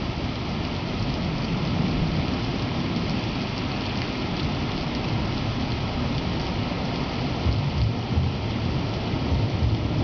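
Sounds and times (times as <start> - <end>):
rain on wet pavement: 0.0 - 10.0.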